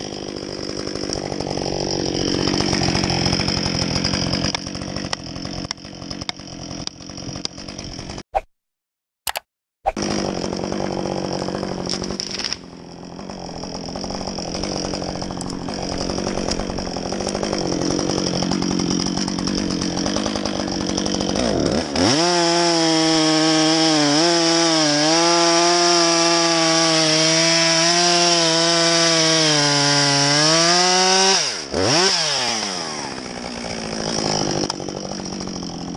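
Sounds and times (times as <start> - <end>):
chainsaw running: 0.0 - 8.2, 9.9 - 35.9.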